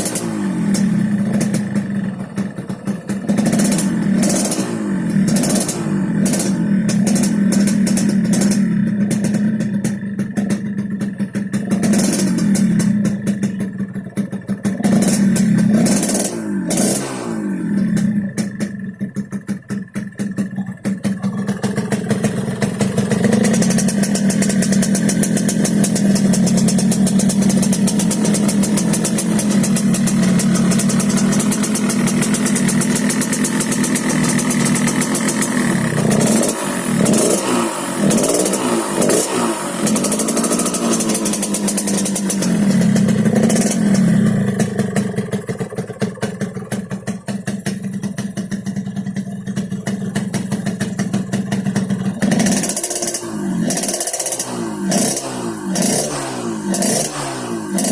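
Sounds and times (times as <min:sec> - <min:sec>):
two-stroke motorcycle engine revving: 0:00.0 - 0:57.9.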